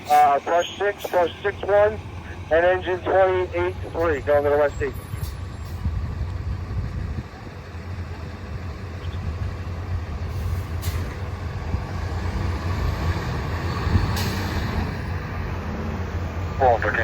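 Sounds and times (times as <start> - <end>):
fire truck engine running: 0.0 - 17.0.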